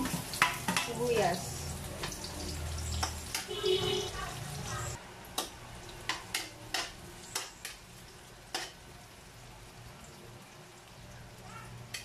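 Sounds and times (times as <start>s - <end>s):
onion and garlic sizzling in oil: 0.0s - 12.0s.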